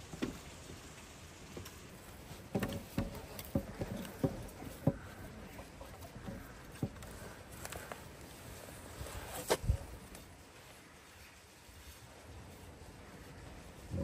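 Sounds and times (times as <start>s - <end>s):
hands kneading dough in bowl: 2.0s - 14.0s.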